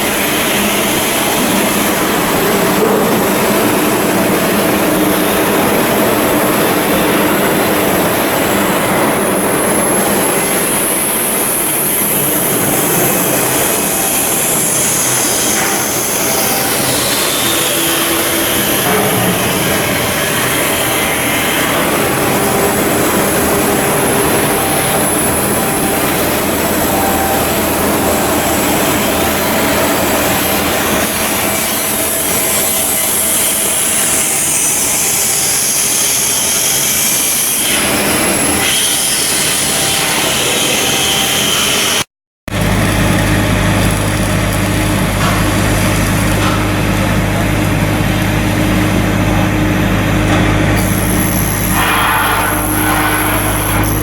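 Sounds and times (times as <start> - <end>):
low machine hum with tones: 0.0 - 35.8, 42.5 - 54.0
shipyard machinery noise: 0.0 - 54.0.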